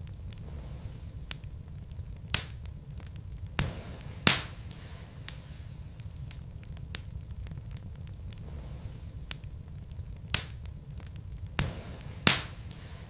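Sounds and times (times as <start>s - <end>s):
logs crackling and popping in fireplace: 0.0s - 13.0s
steady low rumble: 0.0s - 13.0s.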